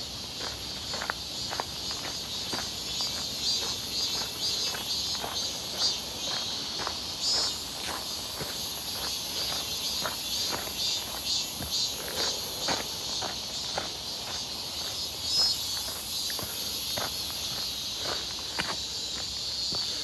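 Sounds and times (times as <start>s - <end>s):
cicadas buzzing: 0.0s - 20.0s
footsteps crunching on dirt: 0.0s - 20.0s.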